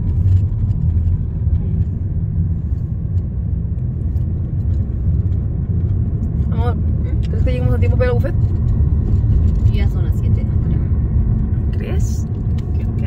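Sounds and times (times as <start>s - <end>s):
car cabin engine and road rumble: 0.0s - 13.0s.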